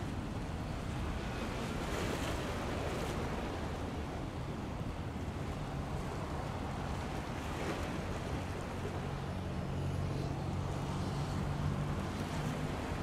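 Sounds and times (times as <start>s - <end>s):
turboprop planes droning overhead: 0.0s - 13.0s.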